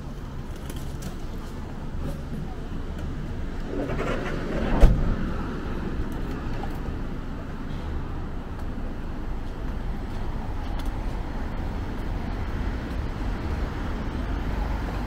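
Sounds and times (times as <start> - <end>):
cars and vans passing: 0.0 - 15.0
low traffic rumble: 0.0 - 15.0.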